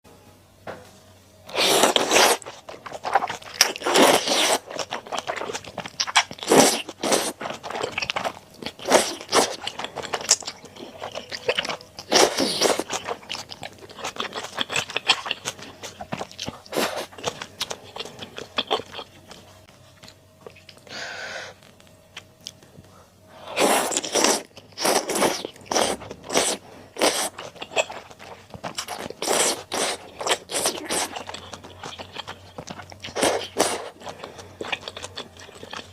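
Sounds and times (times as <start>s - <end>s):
crunchy chewing: 1.5s - 20.9s, 23.4s - 35.9s.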